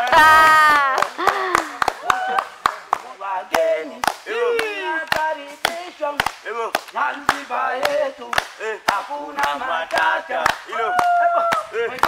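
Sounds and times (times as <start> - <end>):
sharp handclaps: 0.0 - 12.0
voices singing a chant: 2.2 - 12.0.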